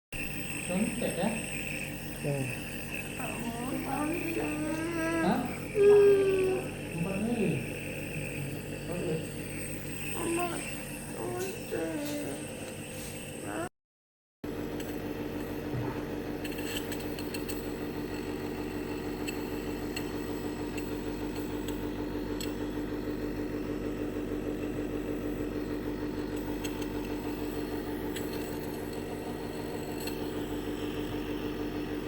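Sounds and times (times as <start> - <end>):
nebulizer compressor buzzing hum: 0.2 - 13.7, 14.5 - 32.0.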